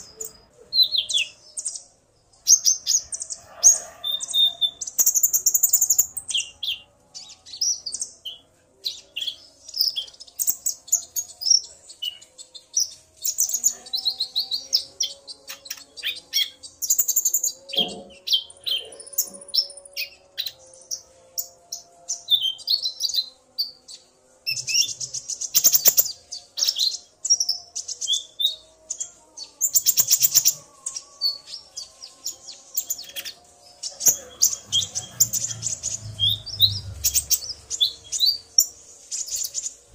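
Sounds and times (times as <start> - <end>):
sunbirds chirping and trilling: 0.0 - 39.9.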